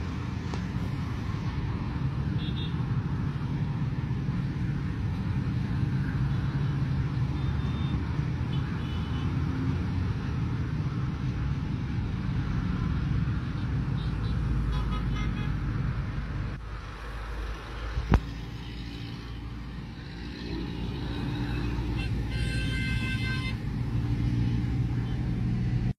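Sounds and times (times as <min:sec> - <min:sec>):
street traffic: 0:00.0 - 0:25.9.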